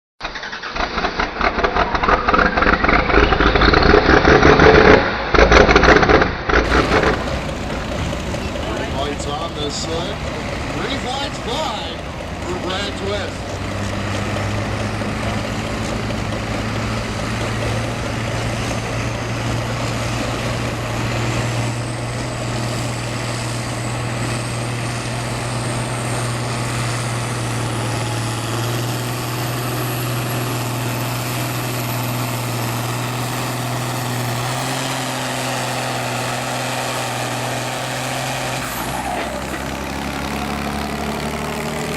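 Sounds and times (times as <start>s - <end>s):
tractor engine running hard: 0.2s - 41.9s.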